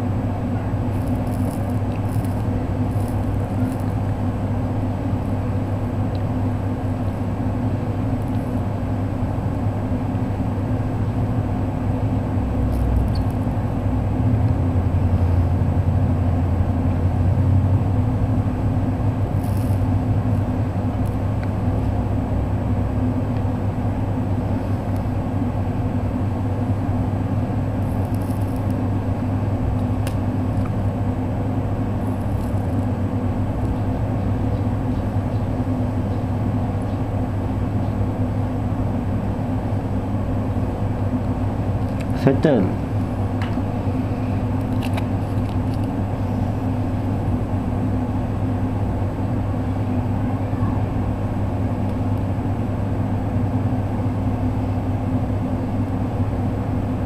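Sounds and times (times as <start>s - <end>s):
steady low hum and rumble: 0.0s - 57.0s.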